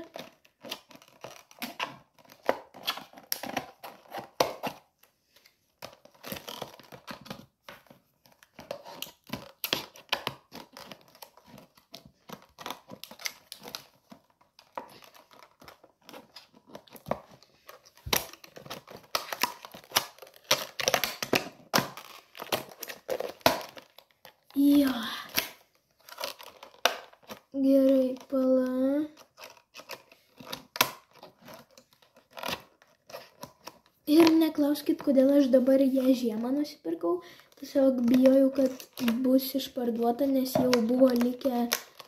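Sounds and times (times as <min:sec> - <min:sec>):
plastic packaging crinkling: 0:00.0 - 0:42.0.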